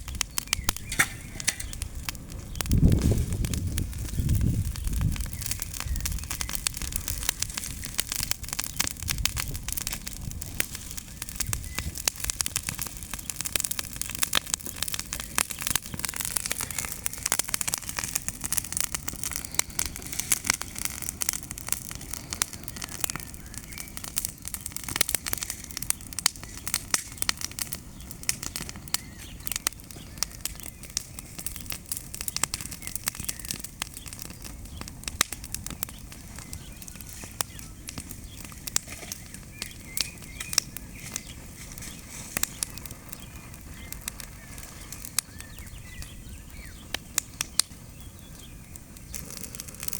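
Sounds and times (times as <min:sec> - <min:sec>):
bonfire crackling and popping: 0:00.0 - 0:49.9.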